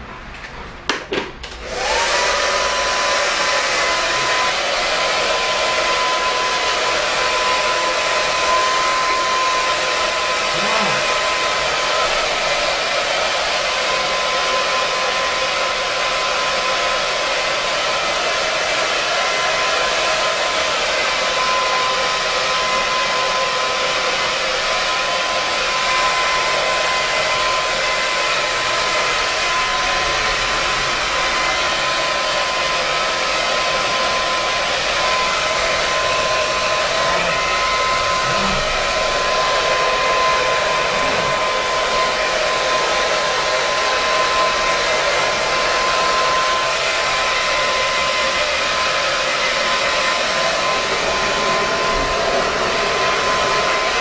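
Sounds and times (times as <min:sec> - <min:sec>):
blow dryer running: 0:00.0 - 0:54.0.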